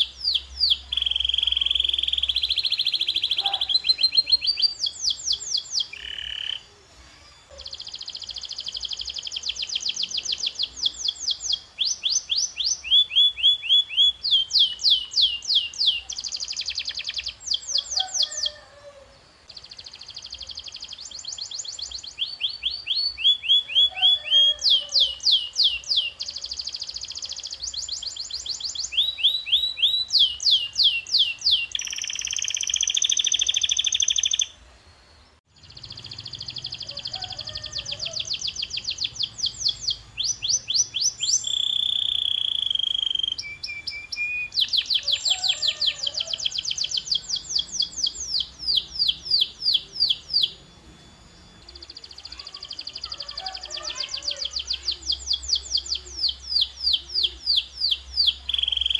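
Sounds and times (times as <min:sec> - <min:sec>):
canary singing: 0:00.0 - 0:34.6, 0:35.4 - 0:58.9.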